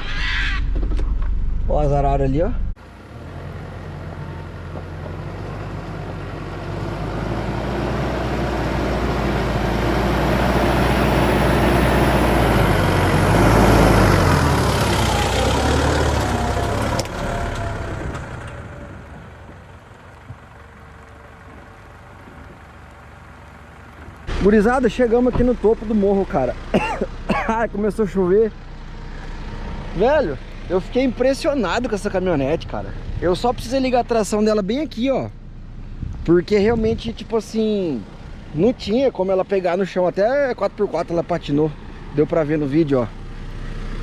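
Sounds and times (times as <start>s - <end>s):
pickup engine pulling uphill: 0.7s - 44.0s.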